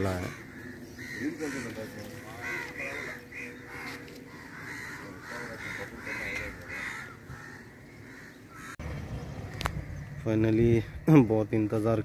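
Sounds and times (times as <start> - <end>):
crows cawing: 0.0 - 10.2.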